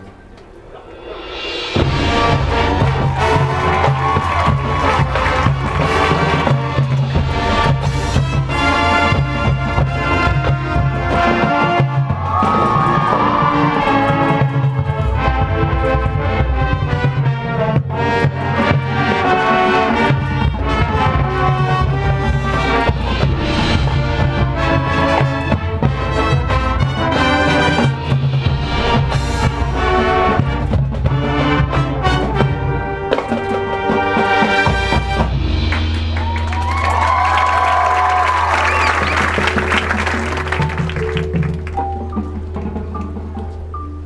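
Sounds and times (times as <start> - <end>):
brass chords: 0.0 - 42.8
drum hits: 0.8 - 18.2, 20.3 - 43.3.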